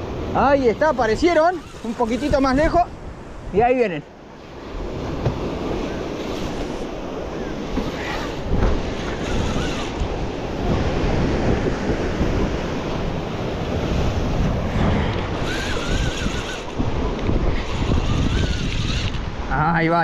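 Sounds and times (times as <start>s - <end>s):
waves breaking in surf: 0.0s - 20.0s
wind blowing across microphone: 0.0s - 20.0s.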